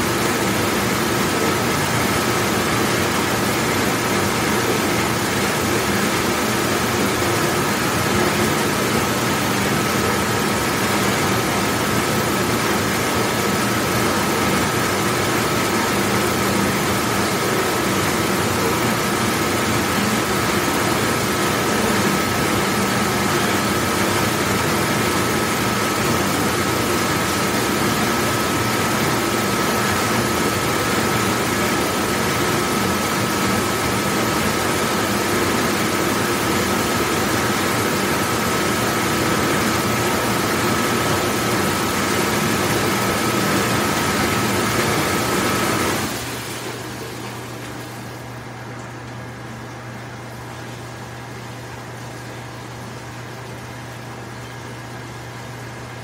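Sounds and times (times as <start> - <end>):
dishwashing machine rushing noise: 0.0 - 56.0.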